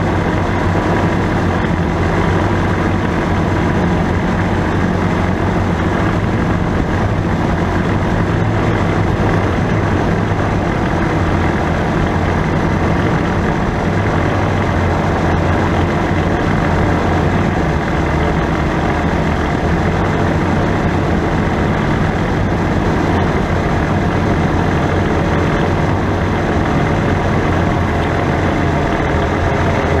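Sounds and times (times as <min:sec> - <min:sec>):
utility vehicle engine running: 0:00.0 - 0:30.0.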